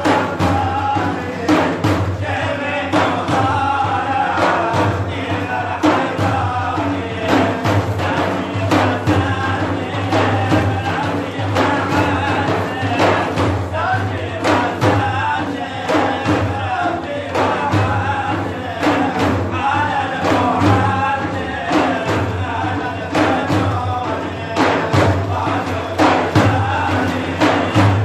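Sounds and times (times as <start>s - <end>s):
men chanting a praise song: 0.0s - 28.0s
percussion beats: 0.0s - 28.0s.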